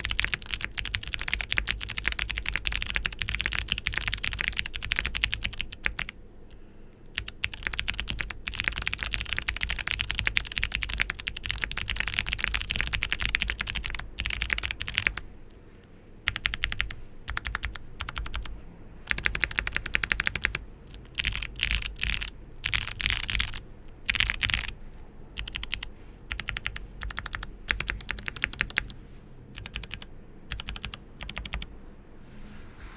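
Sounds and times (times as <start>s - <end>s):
clacky mechanical keyboard typing: 0.0s - 6.2s, 7.2s - 15.2s, 16.3s - 18.5s, 19.1s - 24.7s, 25.4s - 28.9s, 29.6s - 31.7s.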